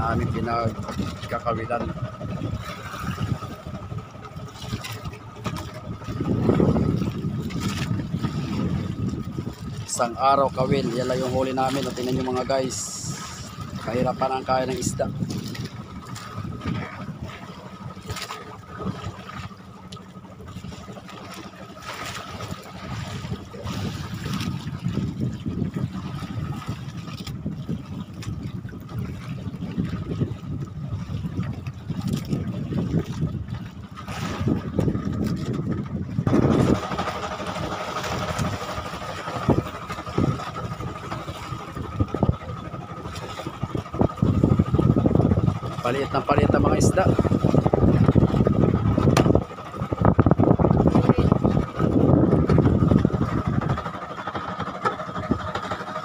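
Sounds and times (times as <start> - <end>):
boat engine rumble: 0.0 - 56.0
water sloshing: 0.0 - 56.0
wind on microphone: 0.0 - 56.0.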